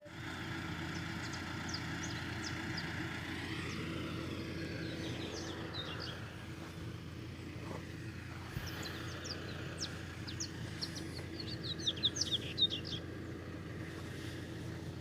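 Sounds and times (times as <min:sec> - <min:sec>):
motor droning: 0:00.0 - 0:15.0
birds chirping: 0:00.1 - 0:15.0.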